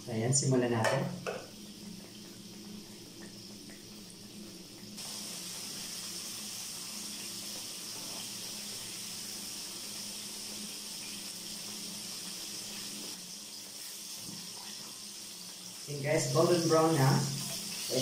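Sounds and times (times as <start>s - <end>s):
chicken frying in hot oil: 0.0s - 18.0s.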